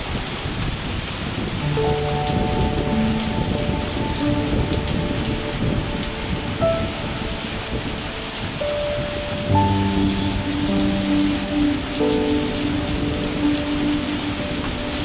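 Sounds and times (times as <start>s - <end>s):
heavy steady rain: 0.0s - 15.0s
low rumble of thunder: 0.0s - 15.0s
soft held musical tones: 1.6s - 15.0s.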